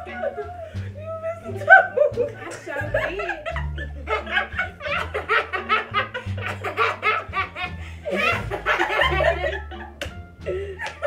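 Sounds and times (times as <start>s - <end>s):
background music with bass: 0.0s - 11.0s
shriek of laughter: 0.0s - 11.0s
young women laughing: 0.0s - 11.0s.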